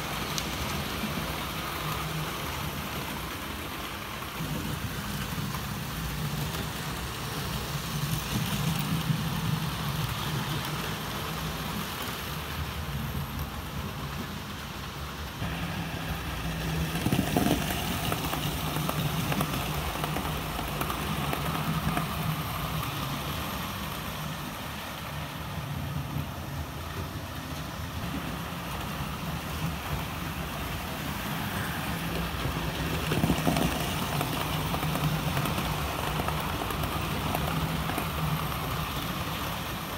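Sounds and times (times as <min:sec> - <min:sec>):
wheels rumbling on track: 0:00.0 - 0:39.9.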